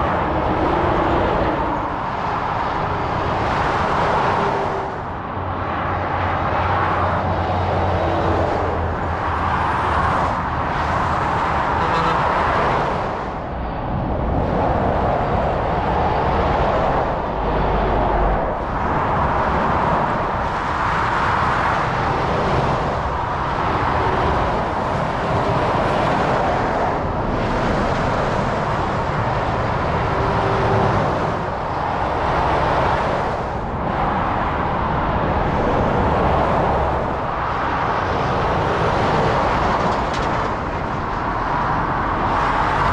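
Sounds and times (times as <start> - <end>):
motorway traffic passing: 0.0 - 42.9.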